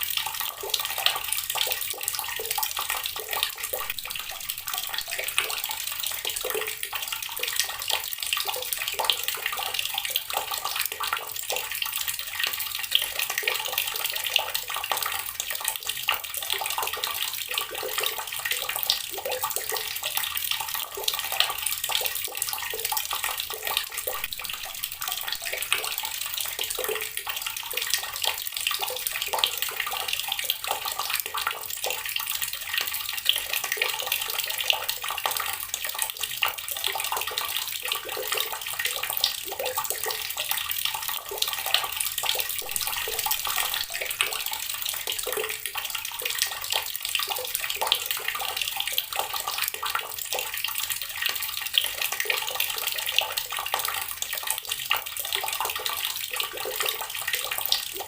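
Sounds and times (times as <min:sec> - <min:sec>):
water pouring from tap: 0:00.0 - 0:58.0.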